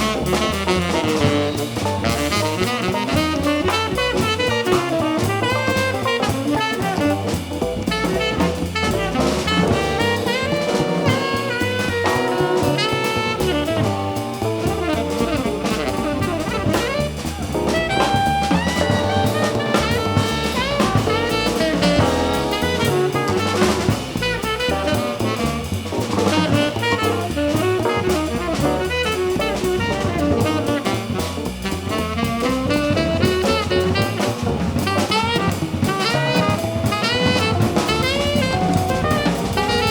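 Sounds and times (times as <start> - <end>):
live jazz band playing: 0.0 - 39.9
saxophone line: 0.0 - 39.9.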